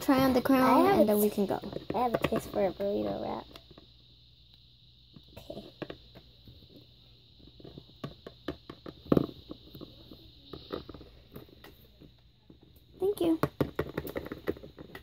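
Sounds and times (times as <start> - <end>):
plastic toys clicking and tapping: 0.1 - 4.0, 5.1 - 6.8, 7.4 - 15.0.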